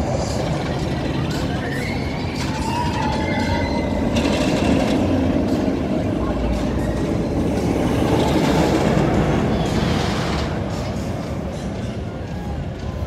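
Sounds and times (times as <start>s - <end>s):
roller coaster train roaring on track: 0.0s - 13.0s.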